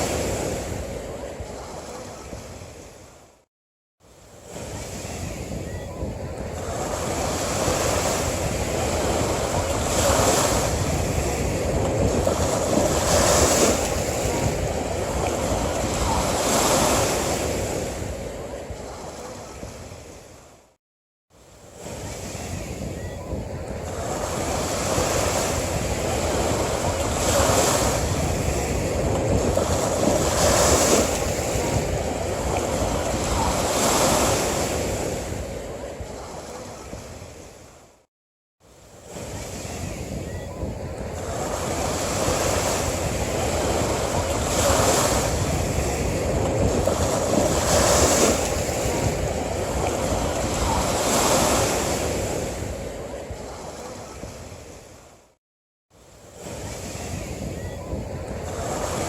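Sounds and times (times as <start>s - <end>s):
sea waves breaking on beach: 0.0s - 3.4s, 4.0s - 20.7s, 21.3s - 59.0s.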